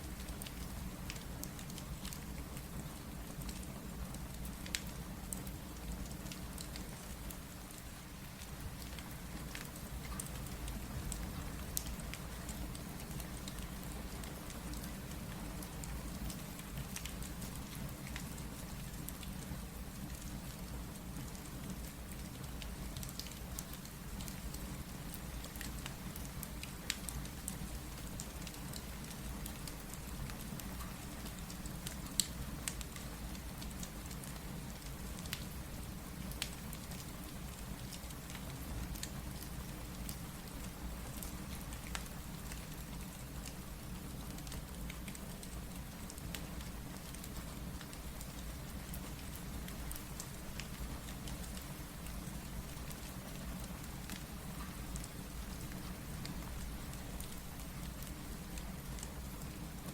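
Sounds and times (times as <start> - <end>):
steady rain: 0.0 - 59.9
wood fire crackles and pops: 0.1 - 59.9.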